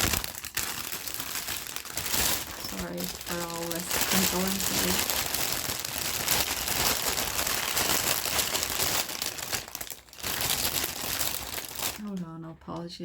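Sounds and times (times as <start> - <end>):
packaging crinkling: 0.0 - 12.2.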